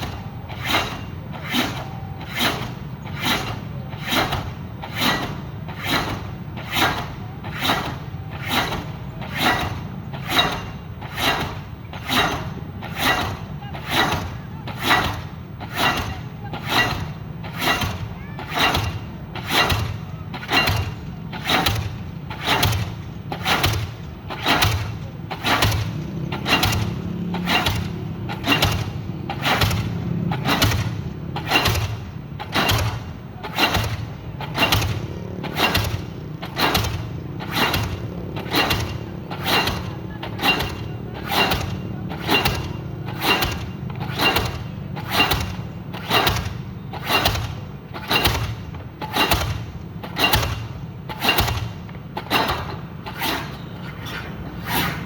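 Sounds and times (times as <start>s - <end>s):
heavy pounding on sheet piles: 0.0s - 53.8s
diesel engine humming: 0.0s - 55.0s.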